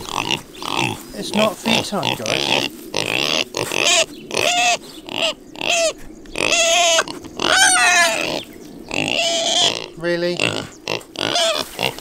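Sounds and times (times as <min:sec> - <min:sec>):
piglets squealing: 0:00.0 - 0:12.0.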